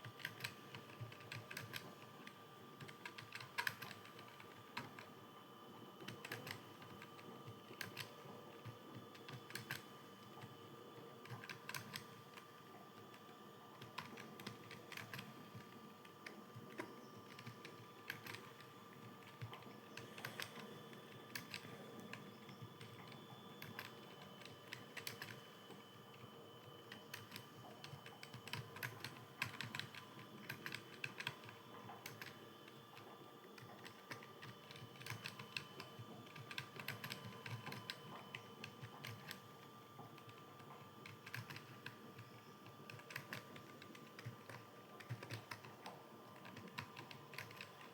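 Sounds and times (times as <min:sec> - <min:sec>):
faint steady hum: 0:00.0 - 0:47.9
keyboard typing clicks: 0:00.1 - 0:05.1, 0:06.0 - 0:10.5, 0:11.2 - 0:12.5, 0:13.1 - 0:25.6, 0:26.9 - 0:47.9.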